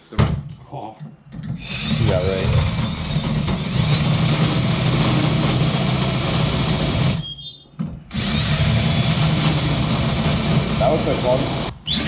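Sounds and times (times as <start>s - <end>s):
power drill whining: 1.6s - 7.4s, 8.1s - 12.0s.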